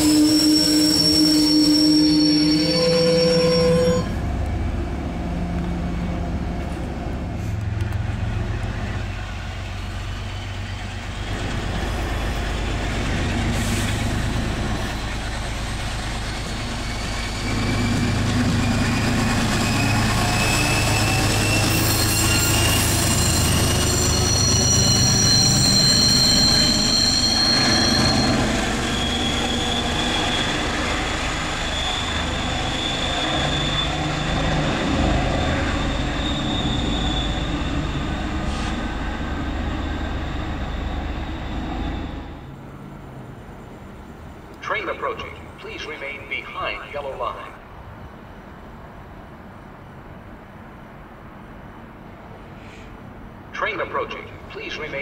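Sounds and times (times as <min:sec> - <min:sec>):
diesel train engine running: 0:00.0 - 0:47.4.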